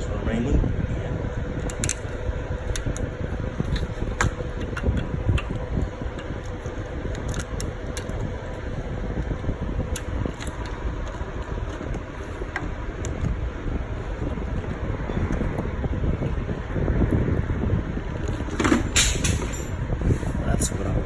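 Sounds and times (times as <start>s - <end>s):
fan-like hum: 0.0s - 21.0s.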